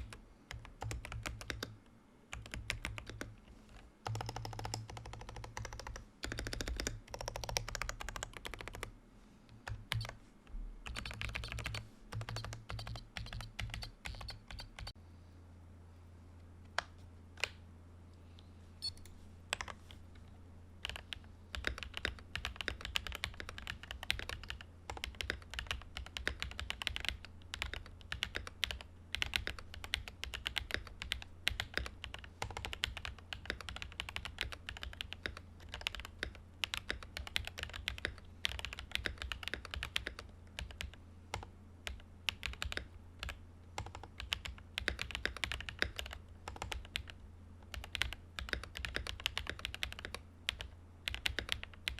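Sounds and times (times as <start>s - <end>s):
typing on mechanical keyboard: 0.0s - 3.3s, 4.0s - 8.9s, 9.6s - 10.2s, 10.8s - 15.0s, 20.8s - 51.9s
steady low hum: 0.0s - 51.9s.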